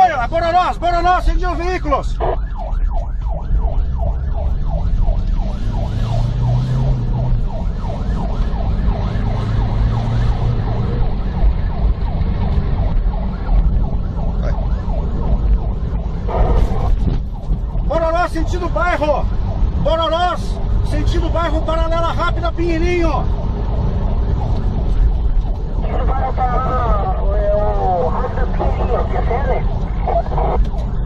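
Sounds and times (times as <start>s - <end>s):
police siren yelping: 0.0s - 31.0s.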